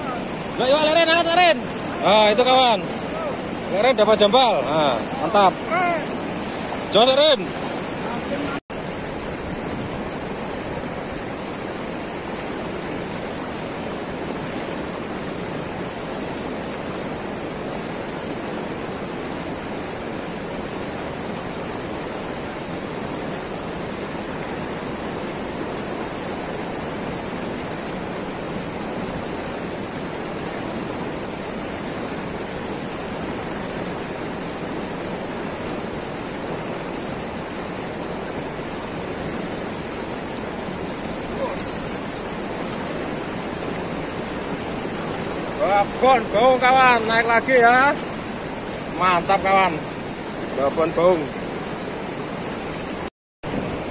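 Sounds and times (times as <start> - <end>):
river water rushing over weir: 0.0 - 53.9.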